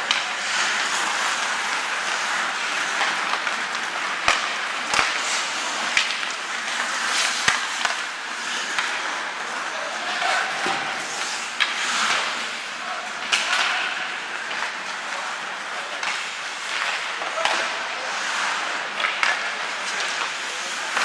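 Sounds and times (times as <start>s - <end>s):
hockey sticks clacking on puck: 0.0s - 21.0s
skates scraping on ice: 0.0s - 21.0s.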